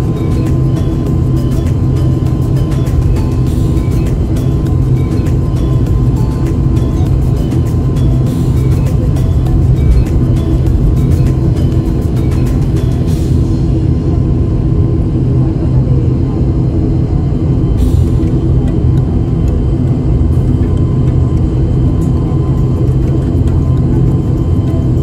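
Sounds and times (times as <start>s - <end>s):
airliner engines rumbling in cabin: 0.0s - 25.0s.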